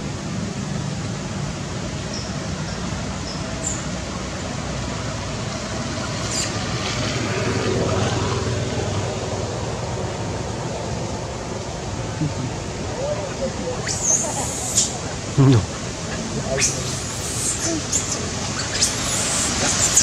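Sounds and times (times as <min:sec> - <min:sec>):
low rumble with hiss: 0:00.0 - 0:20.0.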